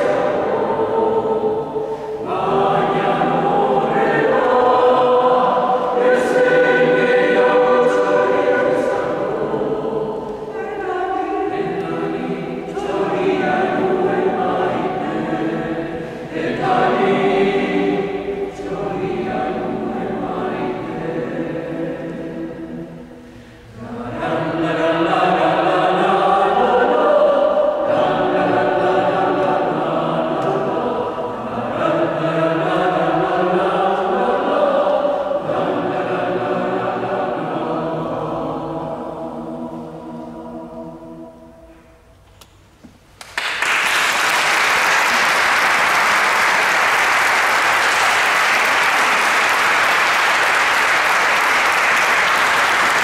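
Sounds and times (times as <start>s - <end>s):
mixed choir singing unaccompanied: 0.0s - 42.1s, 44.4s - 53.0s.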